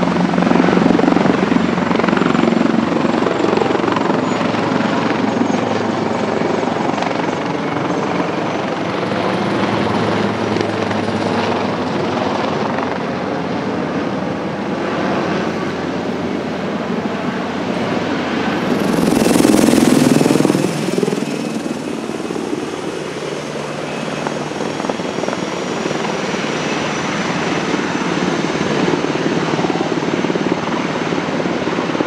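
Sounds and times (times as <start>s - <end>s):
helicopter engines and rotor: 0.0s - 32.0s.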